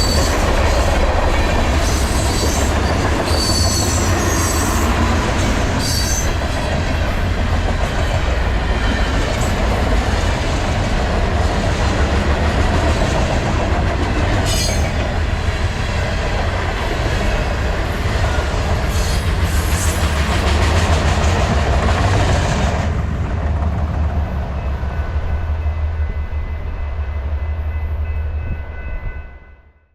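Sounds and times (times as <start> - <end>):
freight train cars rolling: 0.0 - 29.2.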